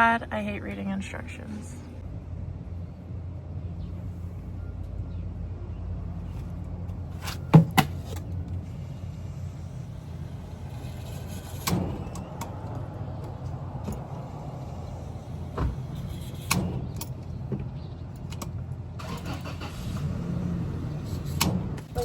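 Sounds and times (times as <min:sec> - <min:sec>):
low vehicle engine rumble: 0:00.0 - 0:22.0.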